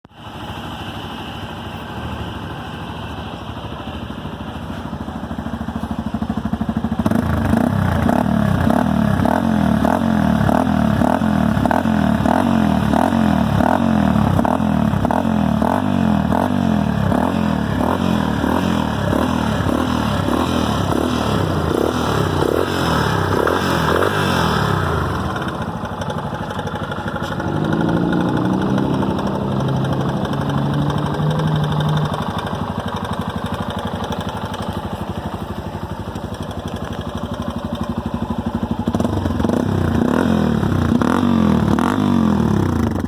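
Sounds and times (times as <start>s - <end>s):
motorcycle engine pulsing: 0.3s - 43.0s.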